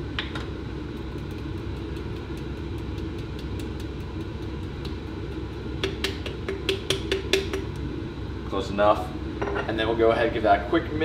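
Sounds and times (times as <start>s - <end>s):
kitchen hum: 0.0s - 11.0s.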